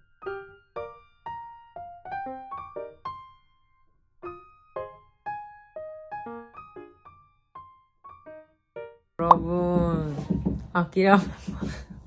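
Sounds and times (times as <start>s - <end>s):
gentle keyboard melody: 0.0s - 9.7s.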